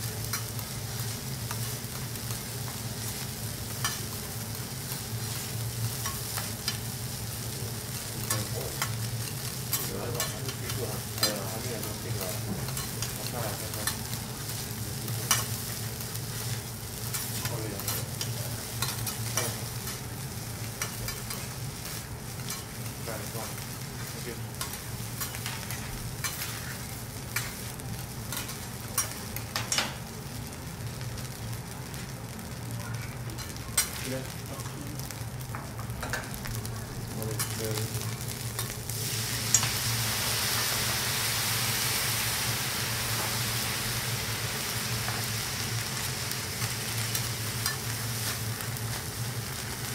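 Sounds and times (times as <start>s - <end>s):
food sizzling on griddle: 0.0s - 49.9s.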